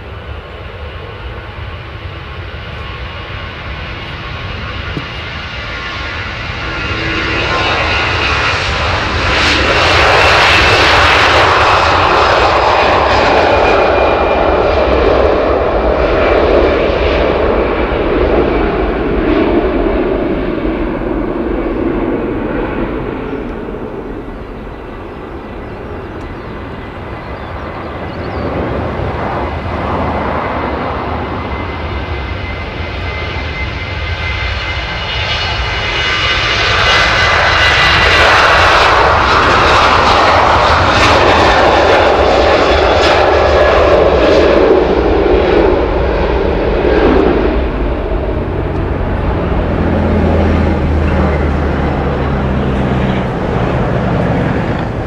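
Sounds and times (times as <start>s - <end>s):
jet airliner engine roar: 0.0s - 55.0s.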